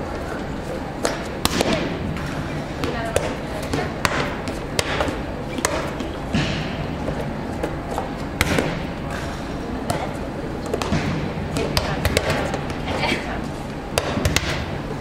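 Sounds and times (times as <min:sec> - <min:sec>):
volleyballs smacking: 0:00.9 - 0:09.2, 0:09.8 - 0:15.0.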